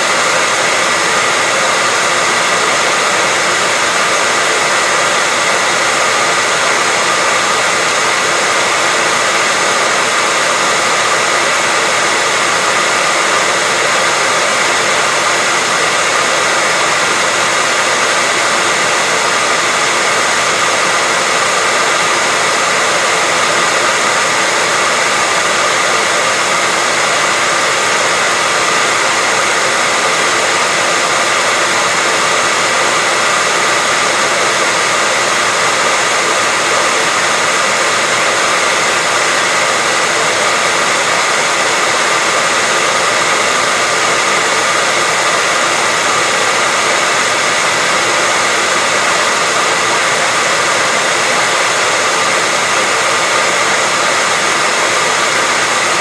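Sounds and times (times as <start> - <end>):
hairdryer running: 0.0 - 56.0.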